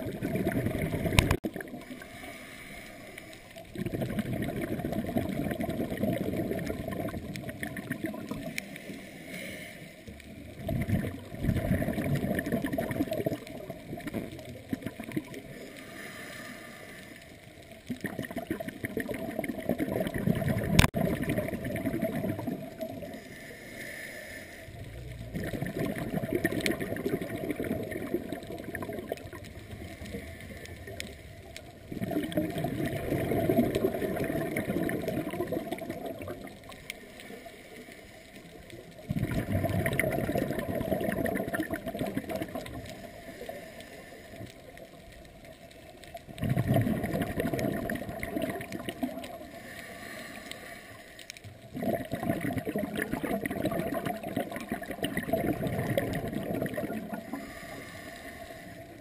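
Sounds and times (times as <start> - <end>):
underwater regulator bubbles gurgling: 0.0 - 23.5, 24.7 - 59.0.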